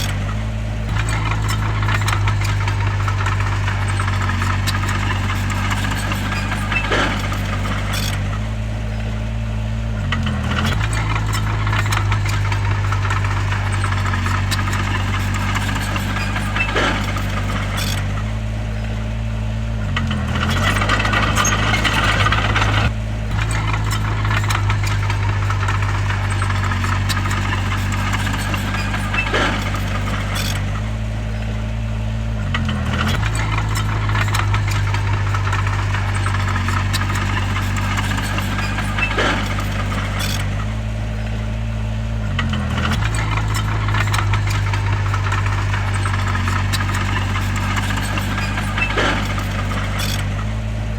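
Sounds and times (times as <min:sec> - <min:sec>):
metallic clanks: 0:00.0 - 0:09.3, 0:10.0 - 0:19.2, 0:19.9 - 0:50.9
bulldozer diesel engine: 0:00.0 - 0:50.9
rattling: 0:00.0 - 0:50.9.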